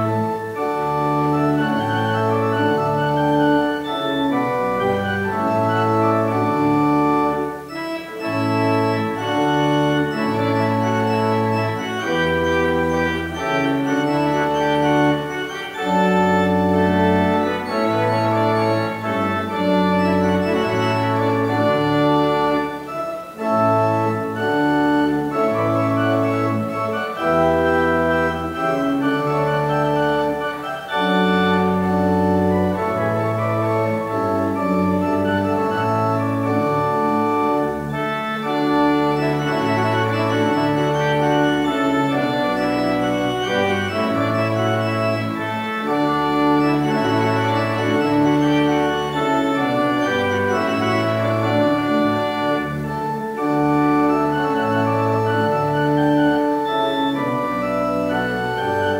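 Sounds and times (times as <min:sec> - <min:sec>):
organ playing held chords: 0:00.0 - 0:58.9.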